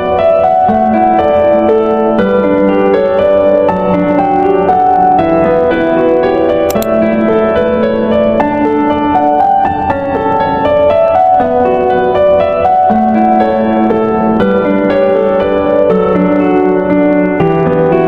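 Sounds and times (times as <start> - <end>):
gentle instrumental music: 0.0 - 18.0.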